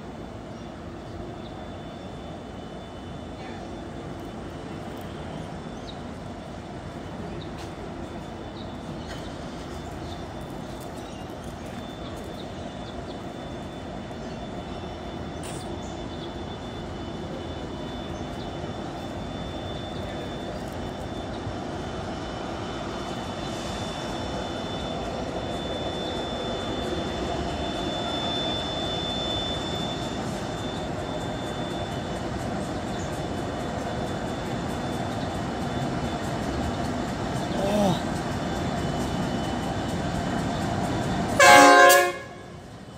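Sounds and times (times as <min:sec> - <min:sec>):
diesel locomotive engine drone: 0:00.0 - 0:42.9
thin high whine: 0:00.0 - 0:42.9.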